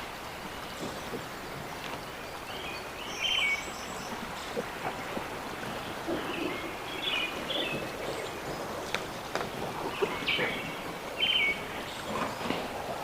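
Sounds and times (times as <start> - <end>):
birds chirping: 0.0 - 13.0
outdoor background hiss: 0.0 - 13.0.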